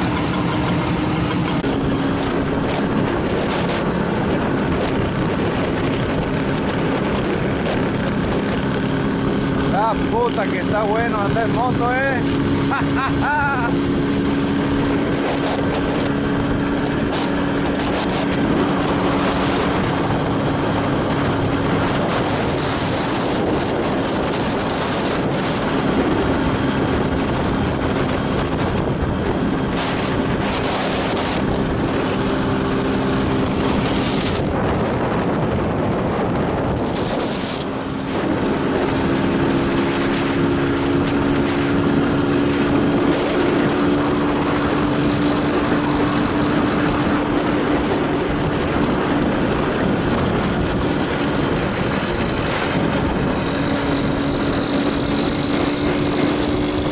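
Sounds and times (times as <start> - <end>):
motorcycle engine running: 0.0 - 56.9
wind on microphone: 0.0 - 56.9.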